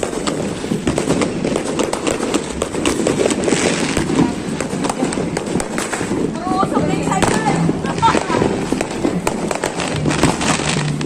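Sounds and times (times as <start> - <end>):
continuous firework crackle: 0.0 - 11.0
fireworks bangs and pops: 0.0 - 11.0.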